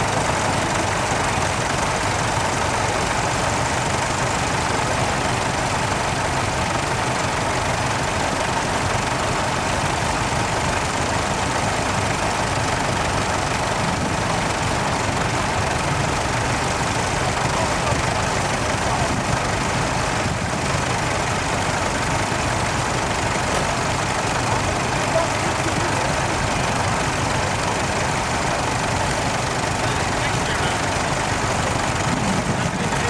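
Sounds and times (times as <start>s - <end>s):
tractor engines idling: 0.0s - 33.0s.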